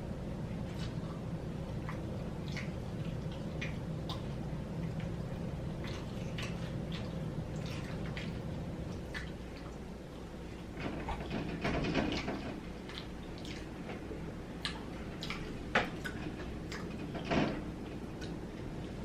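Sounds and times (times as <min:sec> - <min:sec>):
steady low hum: 0:00.0 - 0:19.0
chewing and wet mouth sounds: 0:00.4 - 0:11.3, 0:12.1 - 0:19.0.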